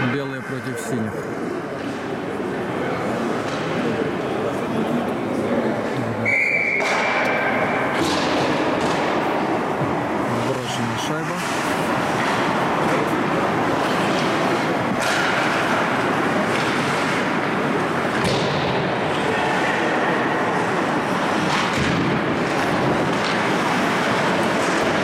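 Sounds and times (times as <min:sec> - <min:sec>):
hockey sticks and puck clacking: 0:01.3 - 0:04.8, 0:05.8 - 0:25.0.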